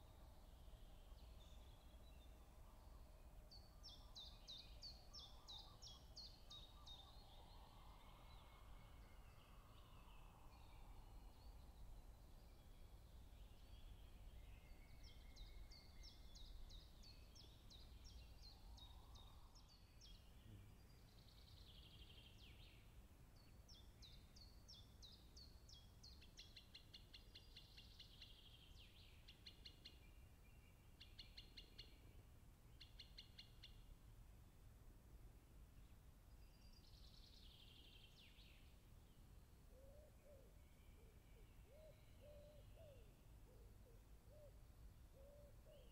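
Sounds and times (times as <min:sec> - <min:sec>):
songbirds singing: 0:00.0 - 0:33.9, 0:35.7 - 0:45.9.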